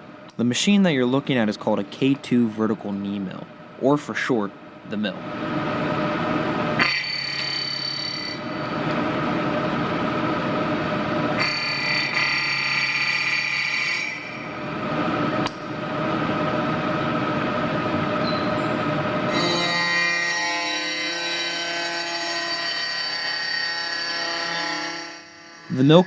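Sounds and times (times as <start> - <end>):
milling machine whine: 5.1 - 26.0.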